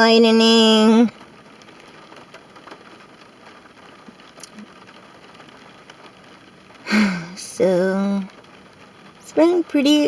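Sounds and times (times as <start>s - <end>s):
faint raindrop ticks: 0.0s - 10.0s
light rain hissing on car: 0.0s - 10.0s.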